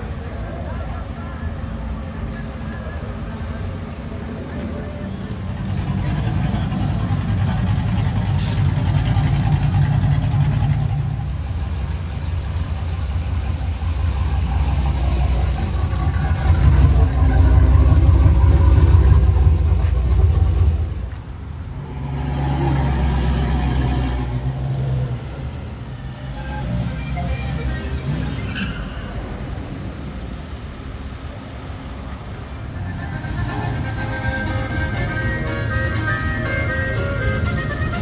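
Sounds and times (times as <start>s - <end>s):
truck engines running: 0.0s - 38.0s.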